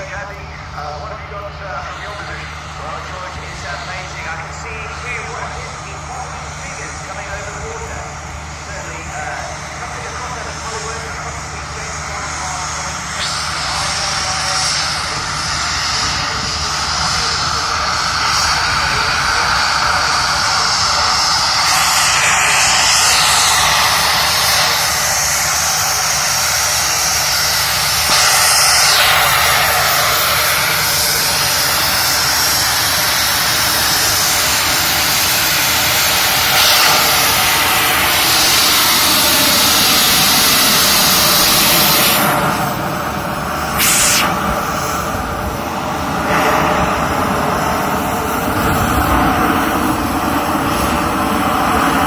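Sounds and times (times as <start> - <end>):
jetpack engines whining roar: 0.0 - 52.0.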